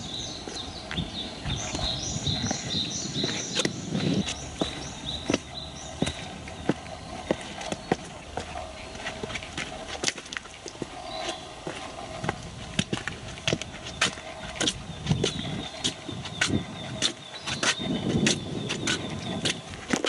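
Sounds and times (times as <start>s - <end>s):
footsteps crunching on forest path: 0.0s - 20.0s.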